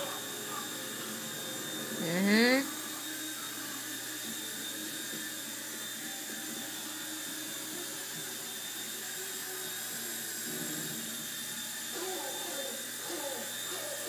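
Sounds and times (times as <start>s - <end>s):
toy helicopter motor whine: 0.0s - 14.0s.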